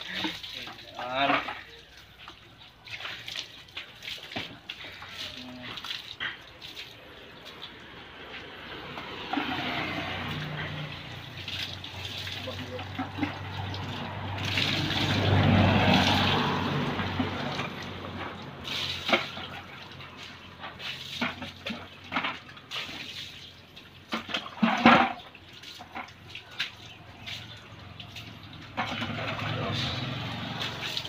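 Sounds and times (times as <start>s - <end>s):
water pouring onto wet concrete: 0.0s - 31.0s.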